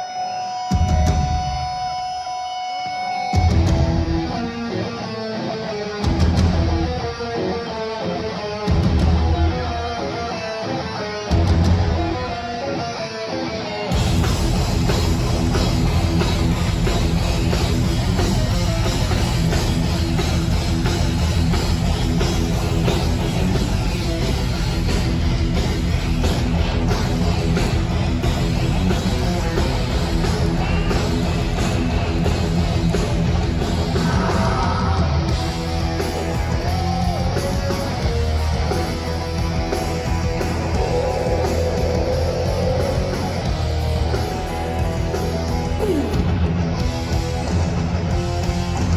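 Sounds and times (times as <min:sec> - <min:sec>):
electric guitar lead-in: 0:00.0 - 0:48.9
heavy metal band playing live: 0:00.0 - 0:48.9.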